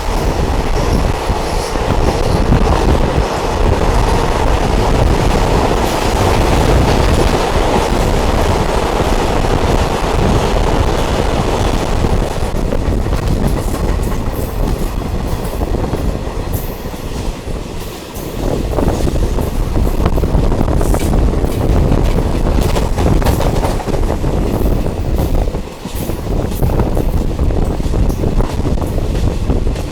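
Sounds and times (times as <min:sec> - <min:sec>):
train running along track: 0:00.0 - 0:29.9.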